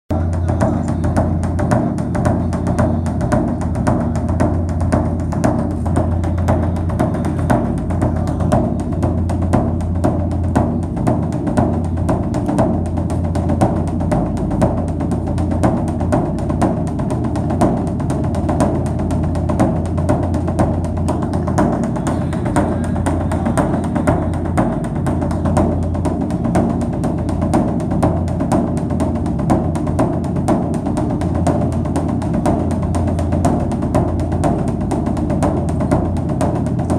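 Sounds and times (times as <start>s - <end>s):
bass drone: 0.1s - 36.9s
rapid low drumming: 0.1s - 36.9s.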